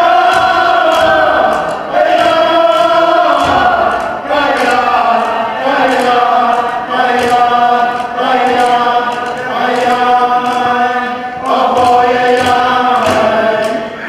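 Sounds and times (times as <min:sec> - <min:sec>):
group singing in unison: 0:00.0 - 0:14.0.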